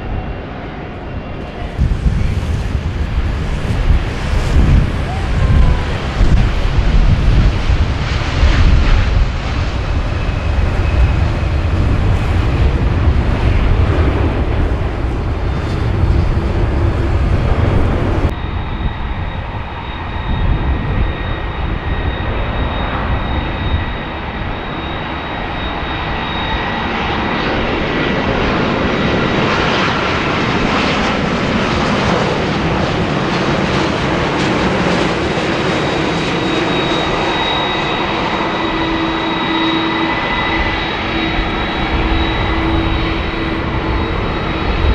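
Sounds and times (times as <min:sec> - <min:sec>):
jet engine whining and roaring: 0:00.0 - 0:44.9
jet engines rumbling at high power: 0:00.0 - 0:44.9.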